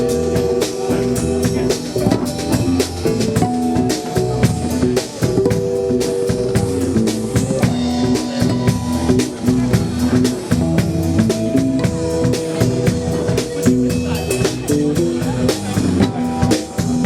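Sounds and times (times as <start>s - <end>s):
drum kit beat: 0.0s - 17.0s
held guitar chords: 0.0s - 17.0s.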